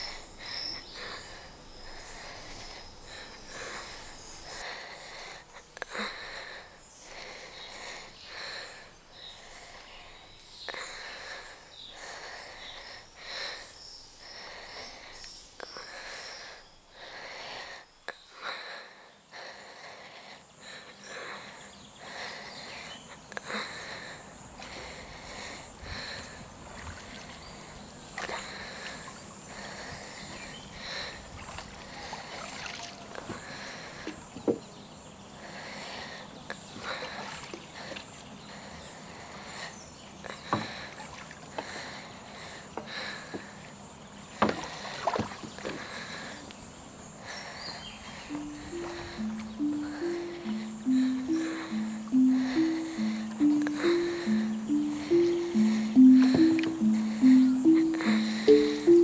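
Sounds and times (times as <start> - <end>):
insects droning: 0.0 - 59.0
woman breathing heavily: 0.0 - 59.0.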